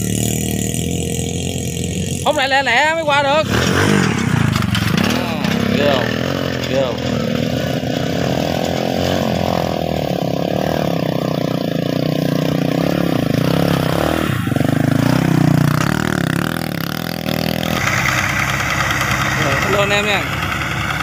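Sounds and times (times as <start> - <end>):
small motorbike engine: 0.0 - 21.0.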